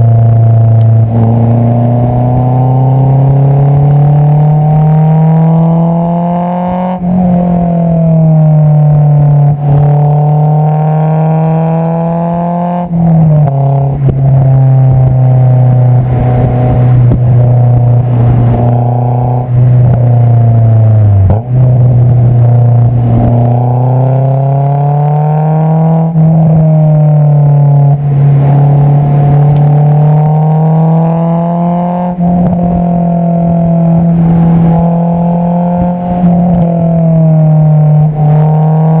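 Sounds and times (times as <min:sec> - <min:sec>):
car exhaust note revving: 0:00.0 - 0:39.0.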